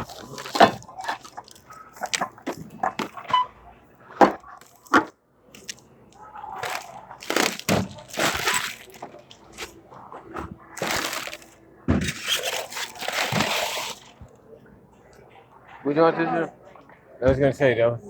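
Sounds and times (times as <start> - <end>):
rustling of handled items: 0.0 - 15.4.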